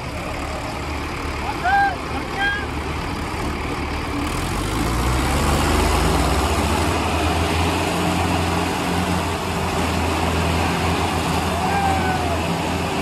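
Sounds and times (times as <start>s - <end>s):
diesel tractor engine revving: 0.0s - 13.0s.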